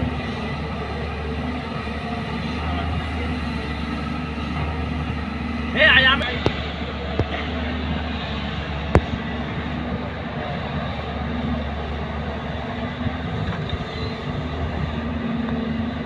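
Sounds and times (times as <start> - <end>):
excavator diesel engine hum: 0.0 - 16.0.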